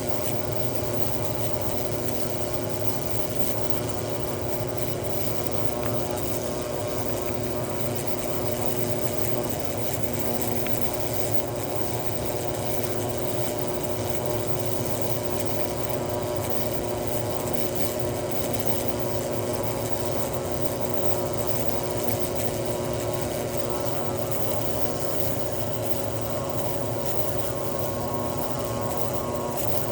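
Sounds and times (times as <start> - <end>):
ultrasonic cleaner buzzing: 0.0 - 29.9.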